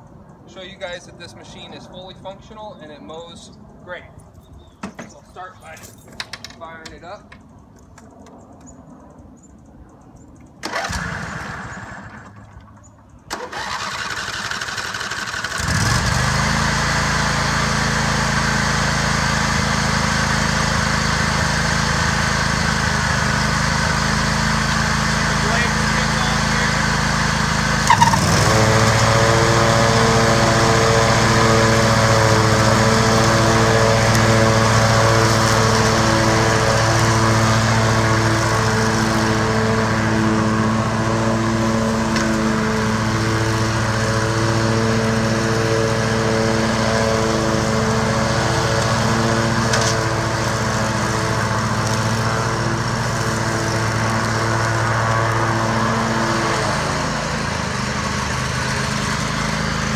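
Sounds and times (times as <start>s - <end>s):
lawn tractor engine mowing: 10.6s - 59.9s.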